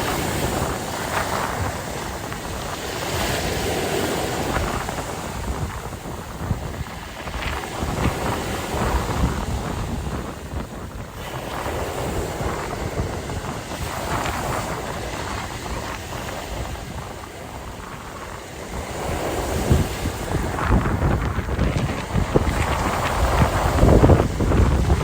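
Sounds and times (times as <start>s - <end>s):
sea waves washing: 0.0s - 25.0s
wind buffeting microphone: 0.0s - 25.0s.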